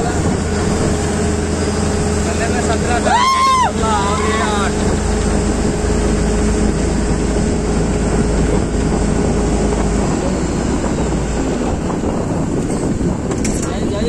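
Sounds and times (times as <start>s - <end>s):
boat engine drone: 0.0s - 14.0s
boat wake rushing: 0.0s - 14.0s
engine hum: 0.0s - 14.0s.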